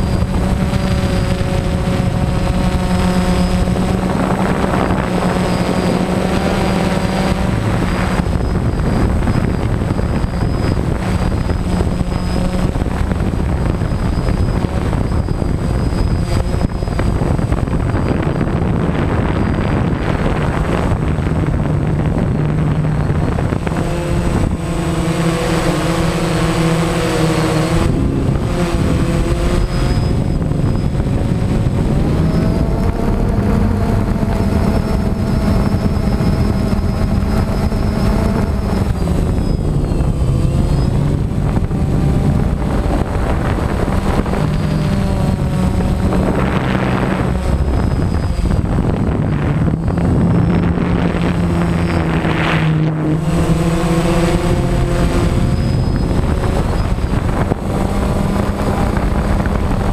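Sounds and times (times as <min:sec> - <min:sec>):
drone propellers humming: 0:00.0 - 0:59.9
wind on microphone: 0:00.0 - 0:59.9.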